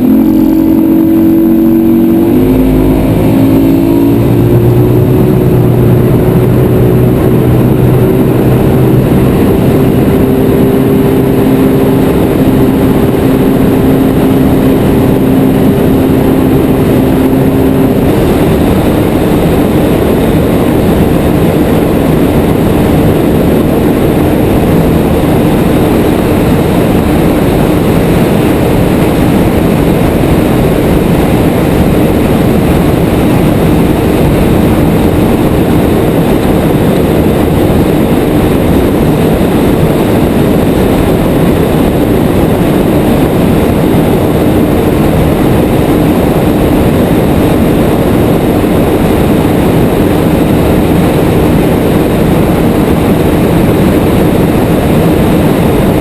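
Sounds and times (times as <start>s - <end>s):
loud wind: 0.0s - 56.0s
motorboat engine droning: 0.0s - 56.0s
water noise: 0.0s - 56.0s.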